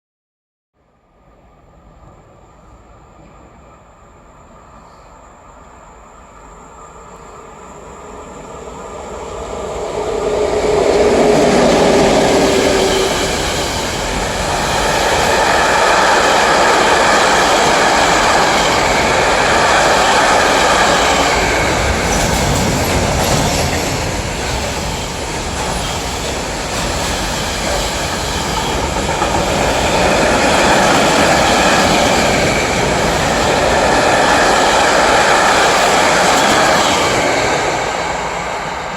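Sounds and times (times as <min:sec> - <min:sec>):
freight train rumbling past: 0:01.1 - 0:38.9.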